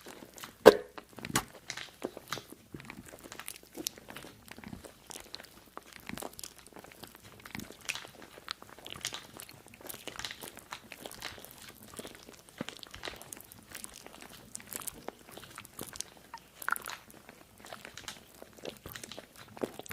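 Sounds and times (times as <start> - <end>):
crisp crunching and crackling: 0.0 - 19.9.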